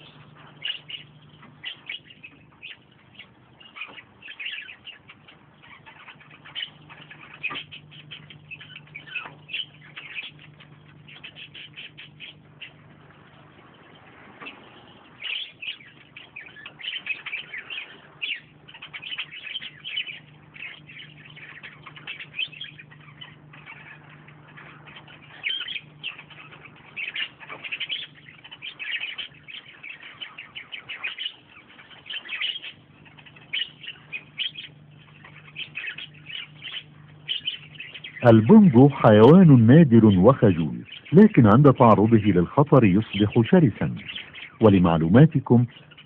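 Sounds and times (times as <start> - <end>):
birds chirping and twittering: 0.0 - 46.0
faint low hum: 0.0 - 46.0.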